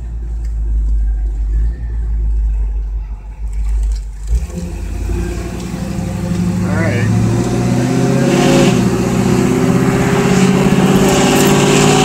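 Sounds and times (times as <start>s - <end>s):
pickup truck engine: 0.0s - 12.0s
road rumble: 0.0s - 12.0s.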